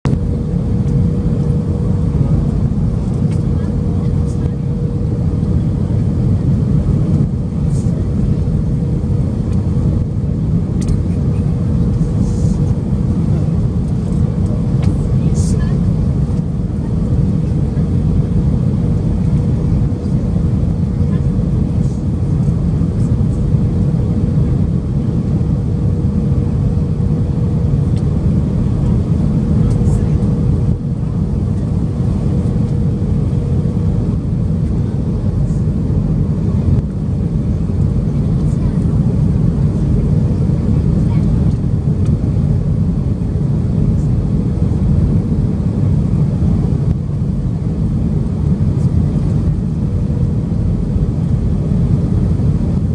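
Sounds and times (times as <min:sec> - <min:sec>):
engine and airflow rumble: 0:00.0 - 0:52.9.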